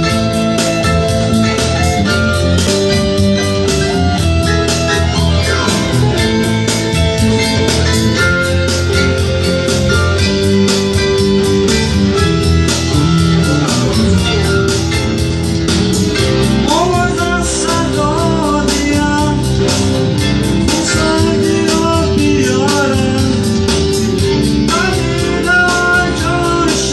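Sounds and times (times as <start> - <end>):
bending melody line: 0.0 - 26.9
guitar: 0.0 - 26.9
live band music: 0.0 - 26.9.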